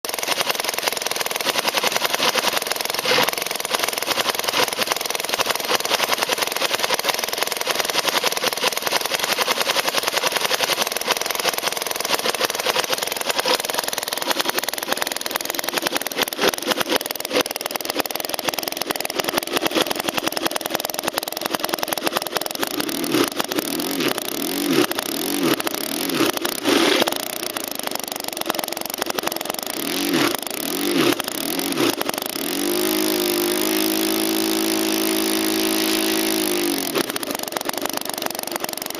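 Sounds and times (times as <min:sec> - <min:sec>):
small gas engine running and revving: 0:00.0 - 0:38.9.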